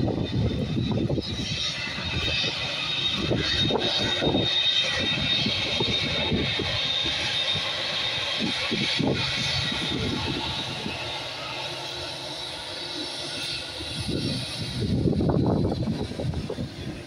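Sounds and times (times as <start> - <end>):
jet engines whining and rumbling: 0.0 - 17.0.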